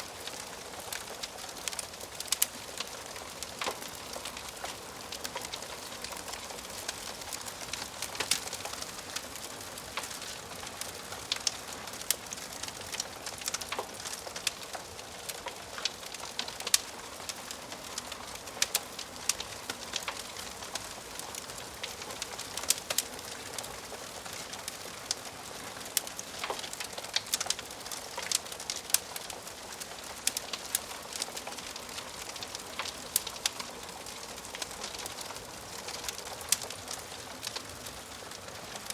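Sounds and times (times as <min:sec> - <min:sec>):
wood fire popping and snapping: 0:00.0 - 0:38.9.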